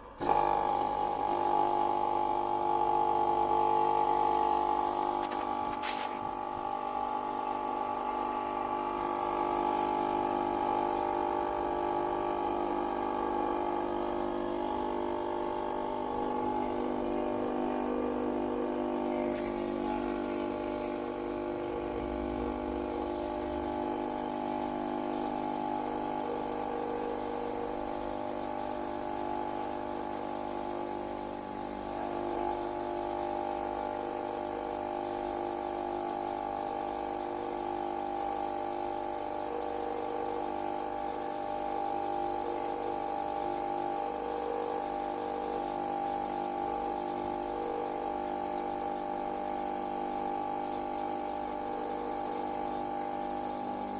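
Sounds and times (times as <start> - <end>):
espresso machine pump humming: 0.0 - 53.9.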